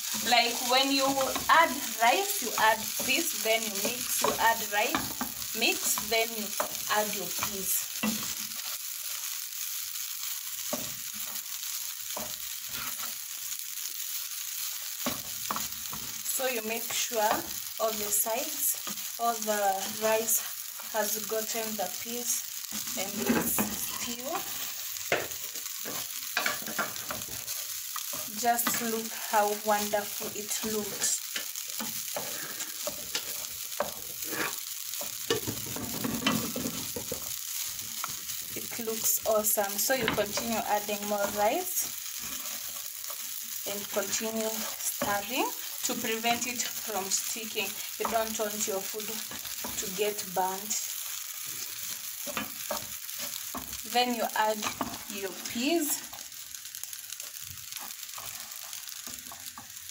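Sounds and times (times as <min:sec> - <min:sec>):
wooden spatula scraping a pan: 0:00.0 - 0:09.4, 0:10.3 - 0:13.2, 0:22.7 - 0:59.8
rice sizzling in a pan: 0:00.0 - 0:59.9.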